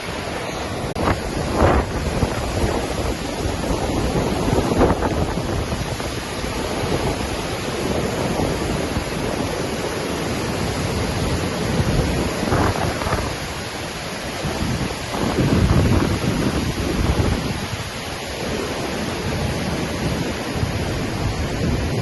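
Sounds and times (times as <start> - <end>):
waterfall rushing: 0.0 - 22.0
wind rumbling on microphone: 0.0 - 22.0.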